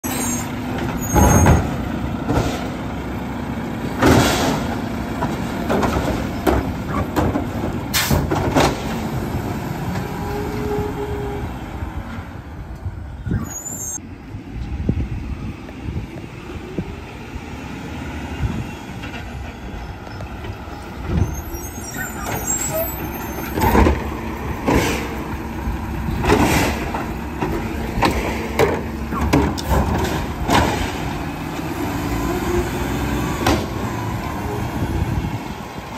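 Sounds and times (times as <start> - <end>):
garbage truck engine running: 0.0 - 13.0, 14.1 - 35.9.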